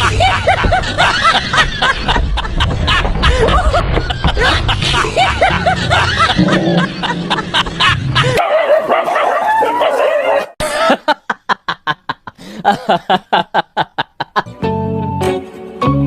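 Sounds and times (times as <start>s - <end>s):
background noise: 0.0s - 16.0s.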